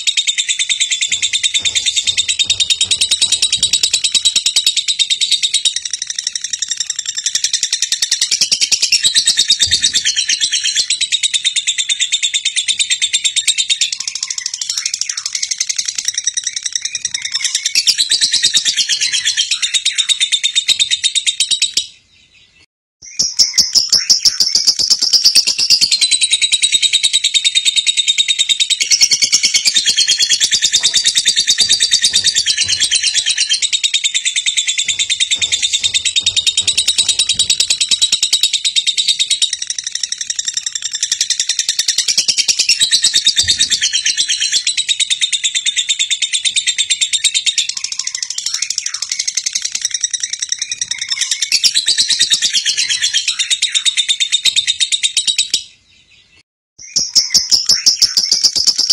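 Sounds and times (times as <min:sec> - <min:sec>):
many birds chirping: 0:00.0 - 0:58.9.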